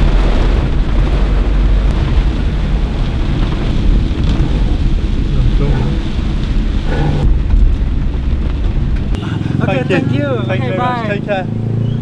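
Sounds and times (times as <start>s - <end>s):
rain on car roof: 0.0s - 9.9s
car engine: 0.0s - 12.0s
tyres on wet road: 0.0s - 12.0s.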